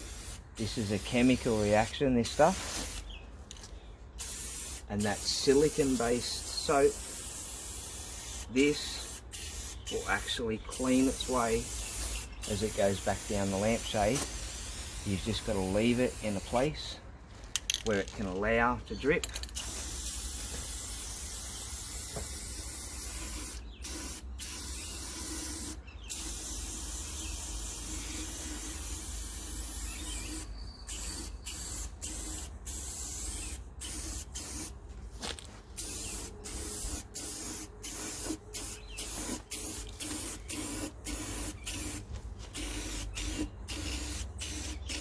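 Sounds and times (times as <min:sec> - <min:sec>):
aerosol spray can hissing: 0:00.0 - 0:01.6, 0:02.3 - 0:03.0, 0:04.2 - 0:16.6, 0:19.6 - 0:34.7, 0:35.8 - 0:45.0.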